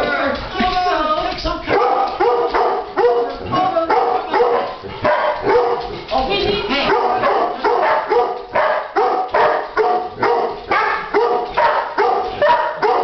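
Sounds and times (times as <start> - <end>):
dog barking: 1.7 - 6.0, 6.8 - 13.0.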